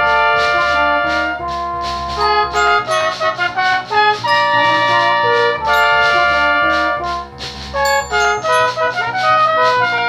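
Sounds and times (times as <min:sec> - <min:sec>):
brass instruments playing a tune: 0:00.0 - 0:10.0.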